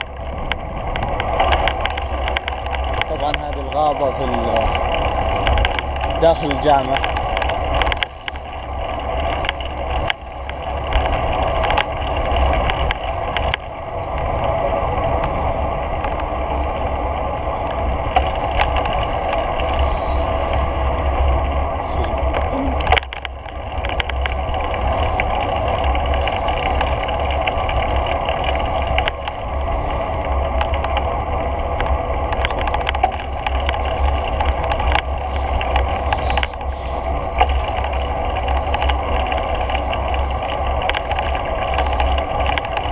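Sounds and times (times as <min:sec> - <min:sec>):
hum of travel on paved path: 0:00.0 - 0:42.9
wind buffeting microphone: 0:00.0 - 0:42.9.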